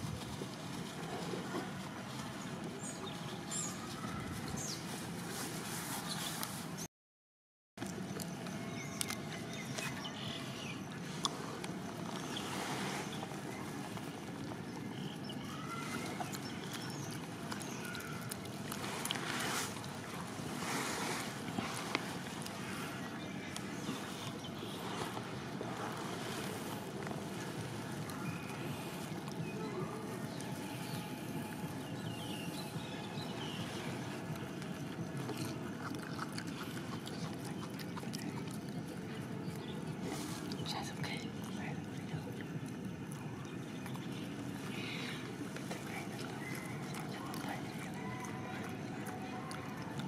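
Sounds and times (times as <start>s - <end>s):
faint steady hum: 7.8s - 50.0s
low rumble and hiss: 7.9s - 50.0s.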